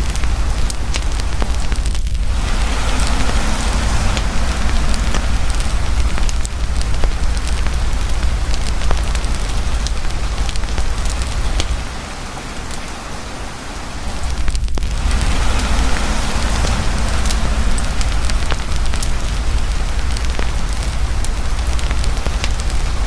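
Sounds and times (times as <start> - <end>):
campfire crackling and popping: 0.0 - 12.9, 14.0 - 23.0
heavy rain pouring: 0.0 - 23.0.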